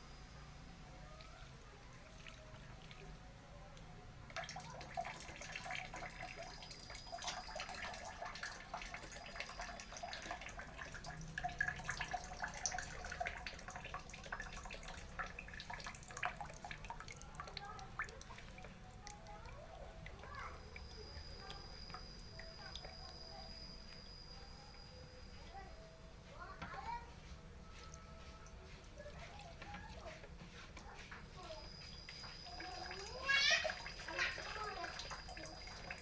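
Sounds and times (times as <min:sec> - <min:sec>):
water splashing and dripping: 0:01.1 - 0:25.6, 0:26.3 - 0:36.0.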